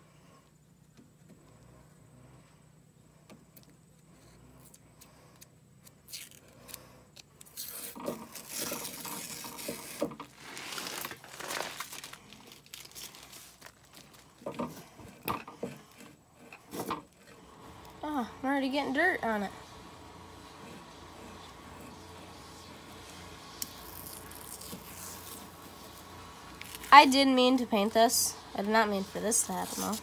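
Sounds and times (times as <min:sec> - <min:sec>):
masking tape peeling: 0:04.2 - 0:16.1, 0:16.7 - 0:30.0.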